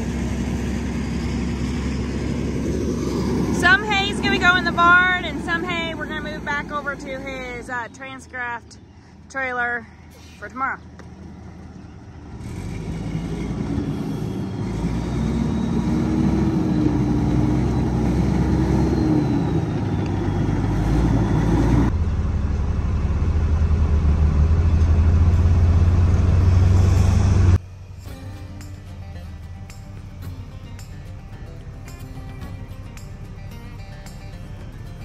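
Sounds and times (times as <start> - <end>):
low engine drone: 0.0 - 35.0
truck engine: 0.0 - 35.0.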